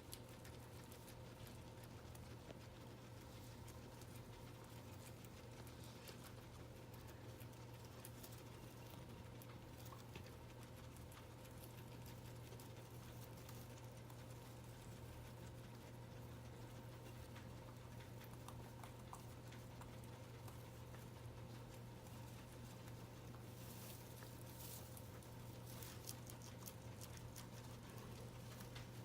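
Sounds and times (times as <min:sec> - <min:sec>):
guinea pigs chewing hay: 0:00.0 - 0:29.0
steady low hum: 0:00.0 - 0:29.0.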